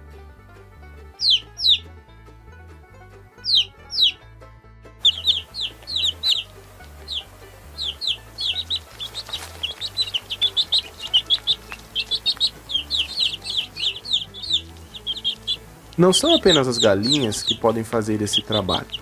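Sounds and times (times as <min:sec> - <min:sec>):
soft low music bass line: 0:00.0 - 0:19.0
baby chicks peeping: 0:01.1 - 0:01.9, 0:03.4 - 0:04.2, 0:05.0 - 0:19.0.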